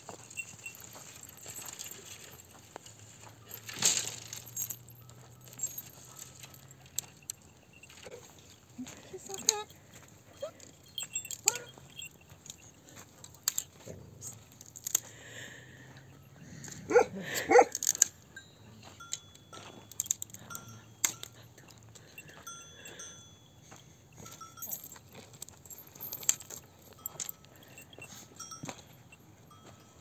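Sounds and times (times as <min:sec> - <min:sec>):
light clinks and ringing tones: 0:00.0 - 0:30.0.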